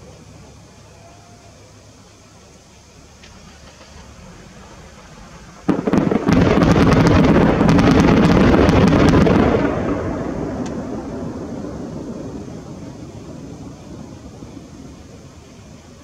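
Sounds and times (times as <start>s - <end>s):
fireworks bursting and crackling: 1.2s - 16.0s.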